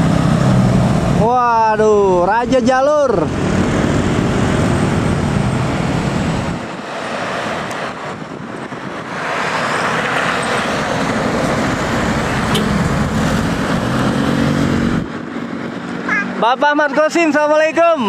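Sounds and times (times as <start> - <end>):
bus engine hum: 0.0 - 18.0.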